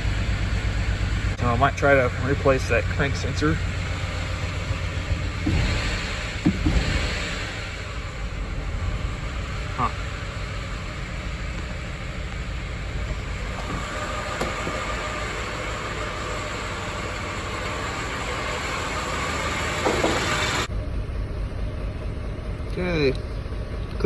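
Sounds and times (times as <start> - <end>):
engine idling rough: 0.0 - 24.0.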